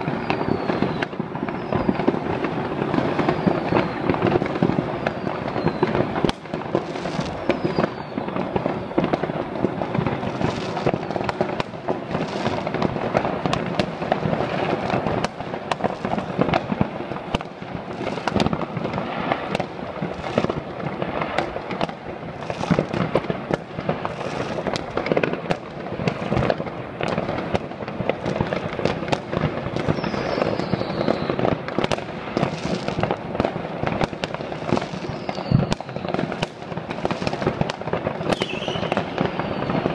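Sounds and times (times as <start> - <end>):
firework whistles: 0.0 - 25.2, 28.4 - 33.2, 33.9 - 39.9
fireworks crackling and banging: 0.0 - 39.9.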